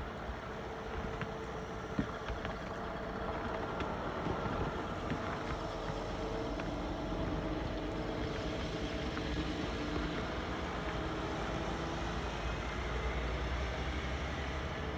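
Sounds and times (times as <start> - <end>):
truck engine rumbling: 0.0 - 14.9.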